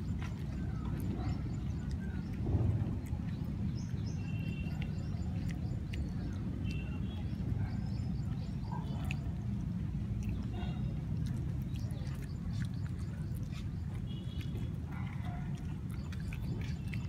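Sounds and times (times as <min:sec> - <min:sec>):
puppy chewing from metal bowl: 0:00.0 - 0:17.0
steady low rumble: 0:00.0 - 0:17.0.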